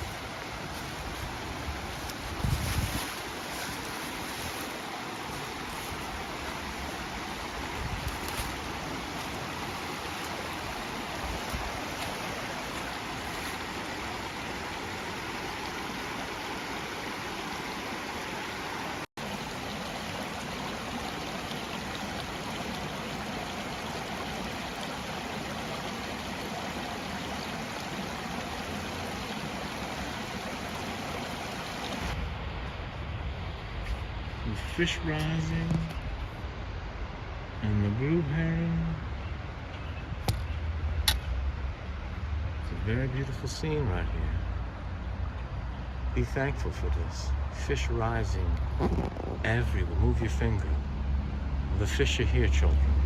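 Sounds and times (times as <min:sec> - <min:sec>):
stream water rushing: 0:00.0 - 0:39.7, 0:41.1 - 0:52.8.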